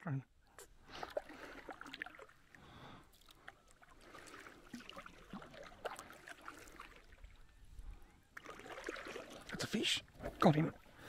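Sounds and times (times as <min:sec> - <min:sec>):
water lapping and trickling: 0:00.2 - 0:11.0.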